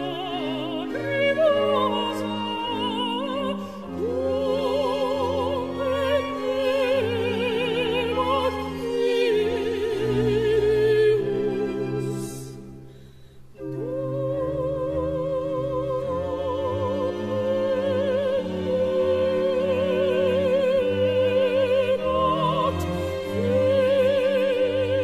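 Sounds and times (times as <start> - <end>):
orchestral accompaniment: 0.0 - 25.0.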